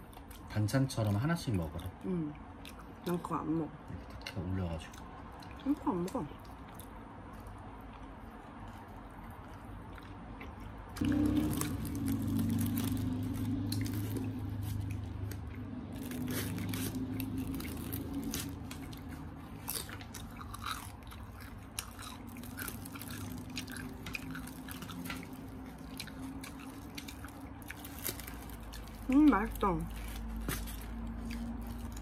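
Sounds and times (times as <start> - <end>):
low steady hum: 0.0 - 32.0
crunching fried chicken: 4.0 - 32.0.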